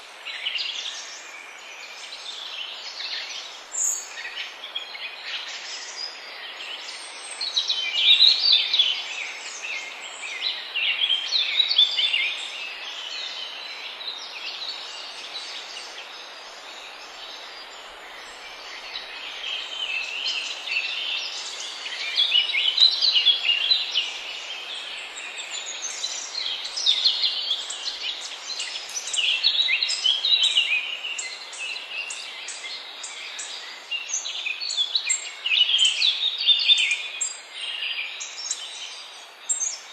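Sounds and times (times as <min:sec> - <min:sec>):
songbirds chirping and trilling: 0:00.0 - 0:39.9
steady background hiss: 0:00.0 - 0:39.9.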